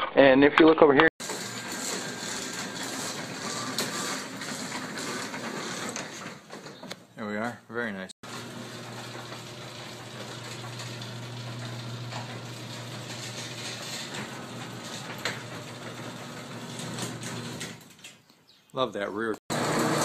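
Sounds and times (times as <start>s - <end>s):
garage door opener motor humming: 1.2s - 6.9s, 8.2s - 18.1s, 19.5s - 20.0s.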